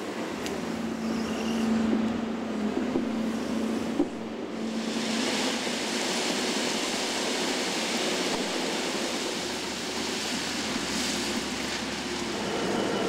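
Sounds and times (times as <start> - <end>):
heavy machinery rushing noise: 0.6 - 13.0.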